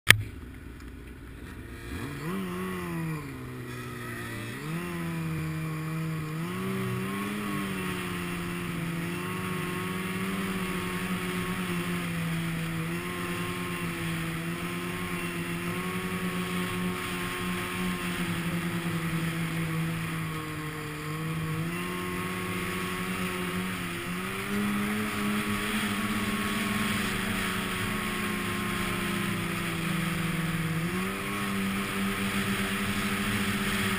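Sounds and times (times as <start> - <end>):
snowmobile engine: 0.1 - 33.9.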